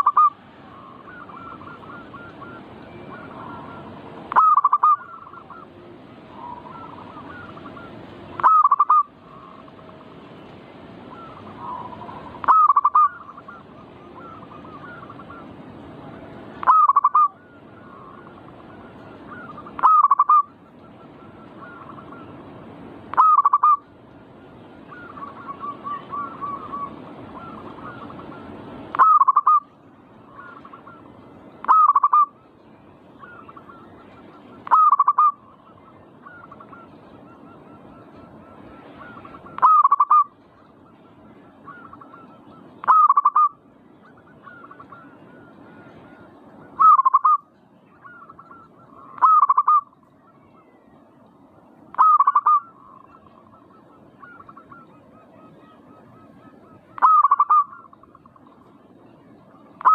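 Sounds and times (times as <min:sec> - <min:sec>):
dove cooing: 0:00.0 - 0:10.2, 0:11.0 - 0:22.5, 0:23.1 - 0:32.5, 0:33.2 - 0:50.9, 0:51.9 - 0:59.9.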